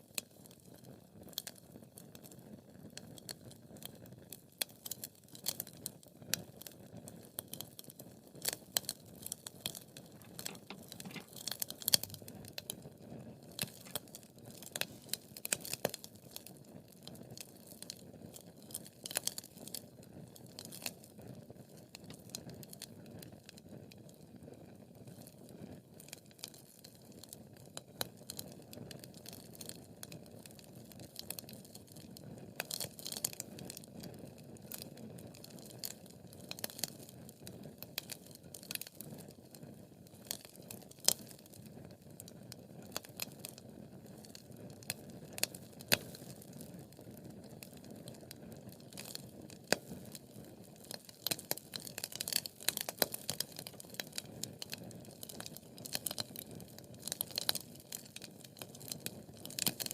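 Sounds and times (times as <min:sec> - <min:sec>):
wood fire crackling: 0:00.2 - 0:24.2, 0:26.0 - 0:59.9.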